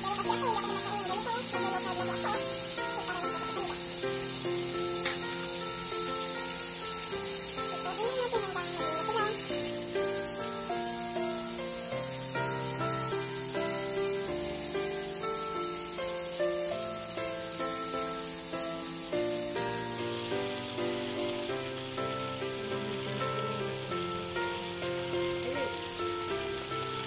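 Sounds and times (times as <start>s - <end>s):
background music: 0.0s - 27.0s
fish deep-frying in oil: 0.0s - 27.0s.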